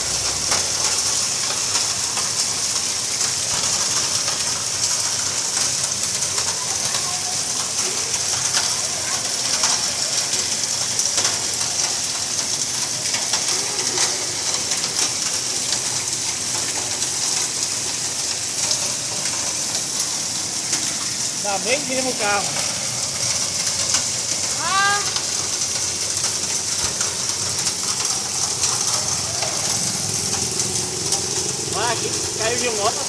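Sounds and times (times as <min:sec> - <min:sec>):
hailstones ticking: 0:00.0 - 0:33.0
heavy rain hissing: 0:00.0 - 0:33.0.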